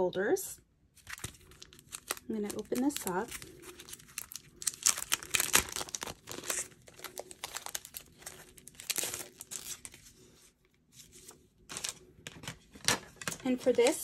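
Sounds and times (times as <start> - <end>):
plastic packaging crinkling: 1.0 - 10.3, 11.2 - 14.0.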